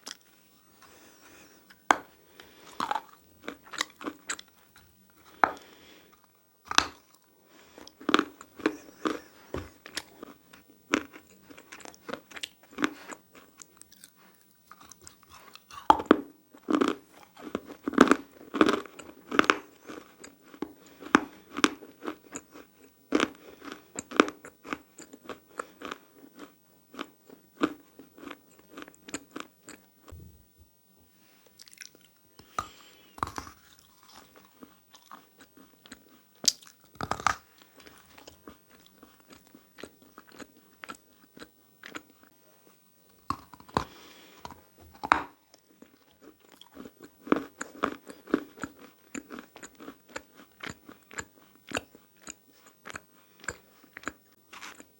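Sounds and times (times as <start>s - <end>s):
person chewing crunchy chalk: 0.0s - 30.2s, 31.6s - 42.3s, 43.1s - 54.9s.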